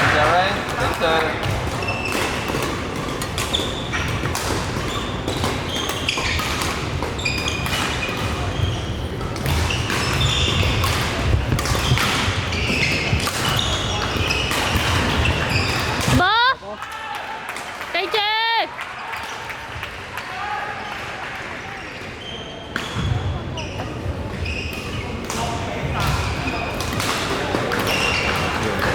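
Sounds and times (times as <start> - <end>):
shoes squeaking on floor: 0.0 - 16.2, 21.9 - 28.9.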